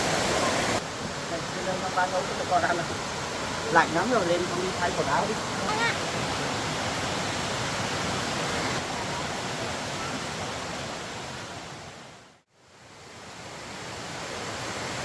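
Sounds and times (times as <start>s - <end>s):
rushing water hiss: 0.0s - 15.0s.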